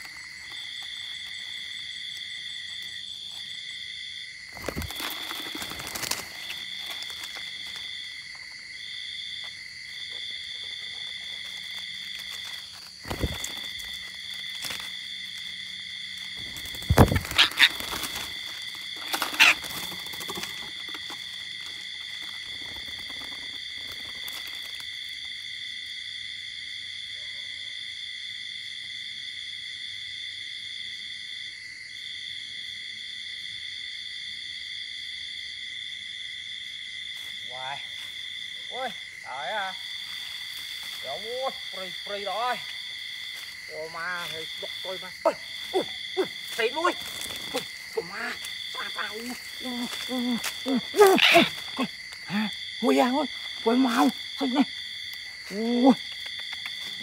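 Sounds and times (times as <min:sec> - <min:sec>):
high-pitched insect drone: 0:00.0 - 0:26.8, 0:36.0 - 0:57.0.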